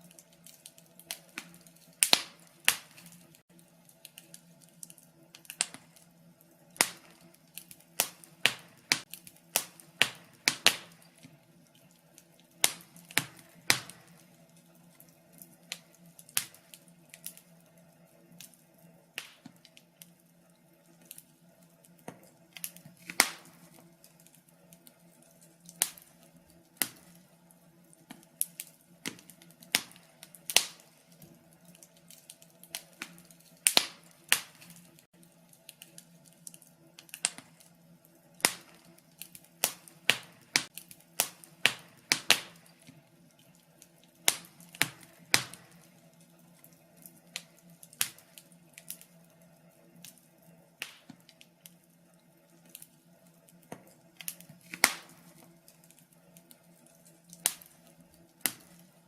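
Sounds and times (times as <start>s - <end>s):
sharp pops and snaps of fire: 0.0s - 59.0s
wood fire crackling: 0.0s - 59.0s.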